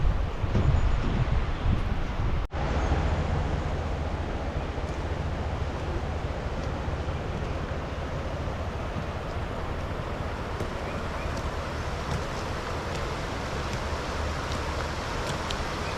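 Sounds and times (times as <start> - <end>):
wind rumbling on microphone: 0.0 - 15.9.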